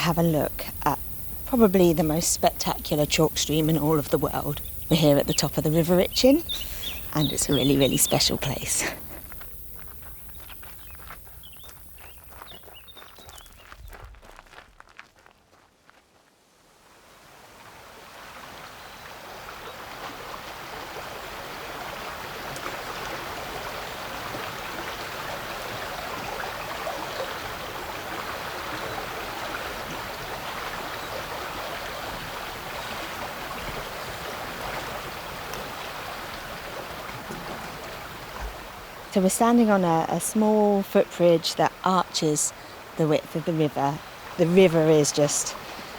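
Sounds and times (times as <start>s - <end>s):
stream water flowing: 0.0s - 13.7s, 16.7s - 45.9s.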